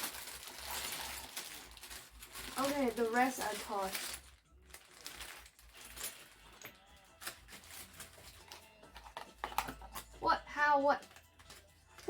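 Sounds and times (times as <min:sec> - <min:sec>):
small objects clicking and rattling: 0:00.0 - 0:10.2.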